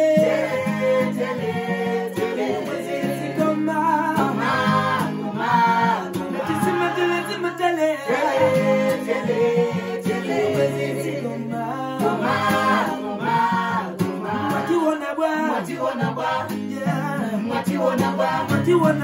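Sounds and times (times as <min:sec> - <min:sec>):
strummed acoustic guitar: 0:00.0 - 0:19.0
voices singing together: 0:00.0 - 0:19.0.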